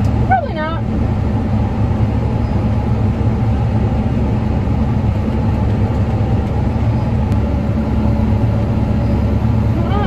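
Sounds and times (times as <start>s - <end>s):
tractor engine drone: 0.0s - 10.0s.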